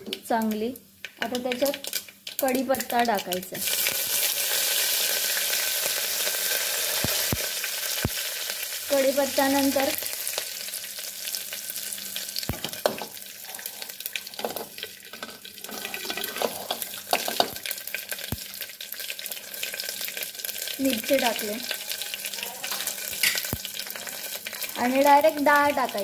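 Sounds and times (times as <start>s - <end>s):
seeds crackling and popping: 0.1s - 10.6s, 11.4s - 26.0s
leaves sizzling in hot oil: 0.2s - 26.0s.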